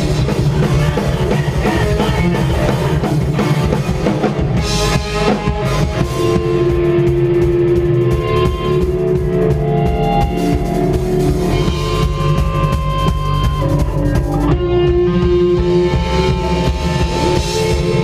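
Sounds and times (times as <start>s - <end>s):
post-hardcore band playing live: 0.0s - 18.0s.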